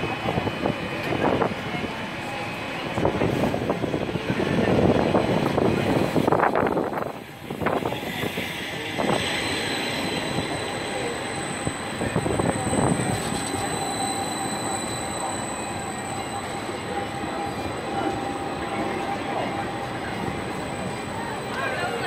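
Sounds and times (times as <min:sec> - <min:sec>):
tram rolling noise: 0:00.0 - 0:22.0
tram wheels squealing on rails: 0:00.0 - 0:22.0.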